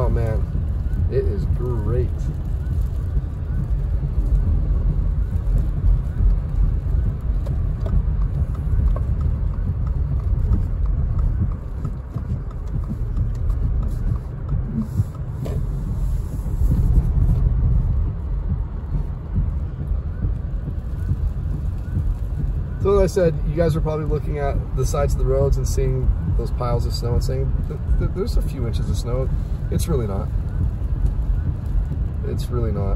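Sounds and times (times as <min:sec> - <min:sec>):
car tyres and engine rumble: 0:00.0 - 0:32.9.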